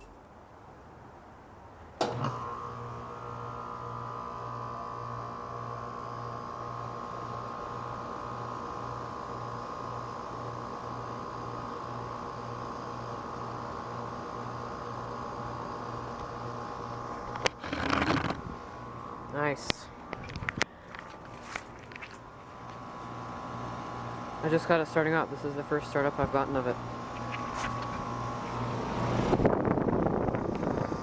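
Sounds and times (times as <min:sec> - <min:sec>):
heat pump humming and throbbing: 0:02.0 - 0:31.0.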